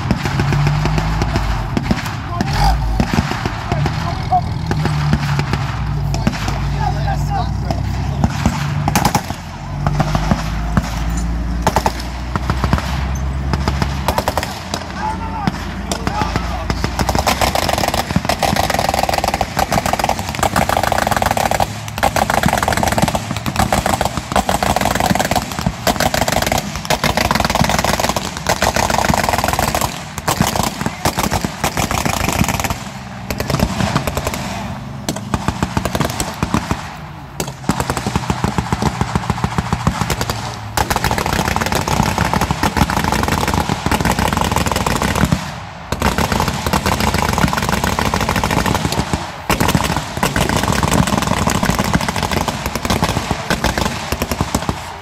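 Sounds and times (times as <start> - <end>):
vehicle engine running: 0.0 - 45.4, 46.0 - 55.0
rapid gunfire: 0.0 - 55.0.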